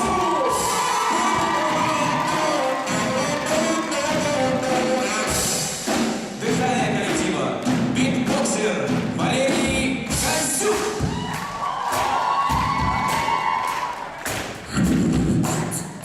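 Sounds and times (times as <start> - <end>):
drum hits: 0.0 - 13.6
band accompaniment: 0.0 - 15.8.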